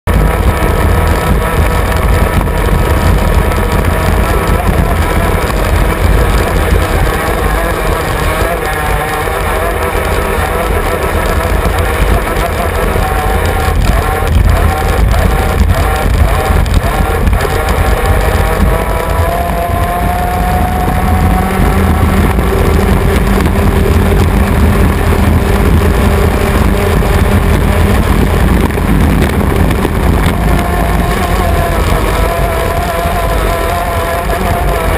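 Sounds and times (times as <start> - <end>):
hull rumbling on water: 0.0 - 34.9
racing boat engine running: 0.0 - 34.9.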